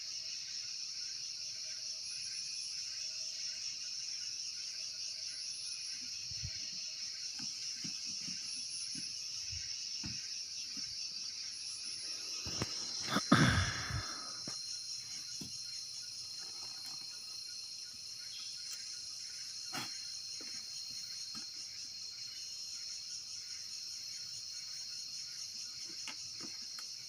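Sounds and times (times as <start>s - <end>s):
high-pitched insect drone: 0.0s - 27.0s.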